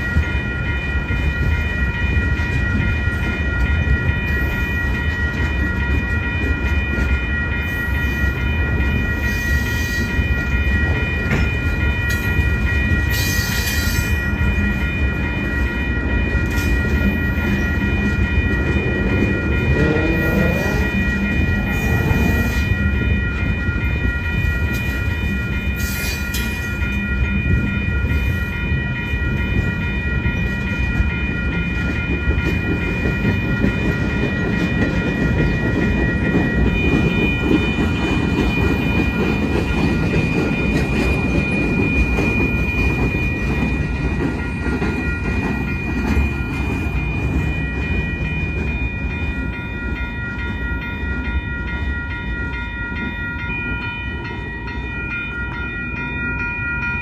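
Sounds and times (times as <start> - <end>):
crossing bell ringing: 0.0 - 57.0
freight train wheels clattering: 0.0 - 57.0.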